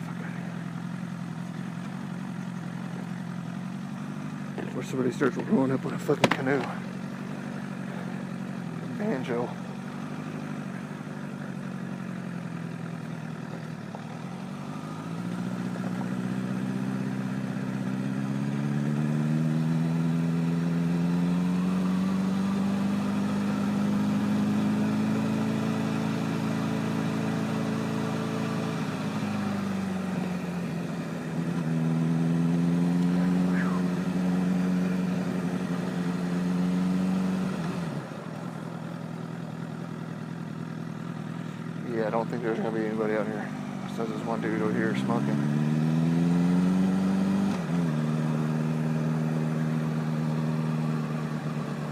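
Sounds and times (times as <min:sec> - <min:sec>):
motorcycle engine at low speed: 0:00.0 - 0:51.9.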